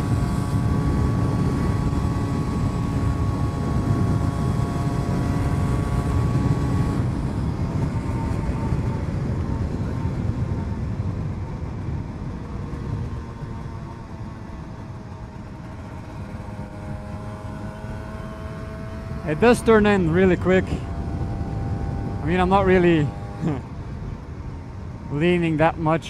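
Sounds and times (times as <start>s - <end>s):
motorcycle engine running: 0.0s - 25.2s
wind and road noise: 0.0s - 26.0s.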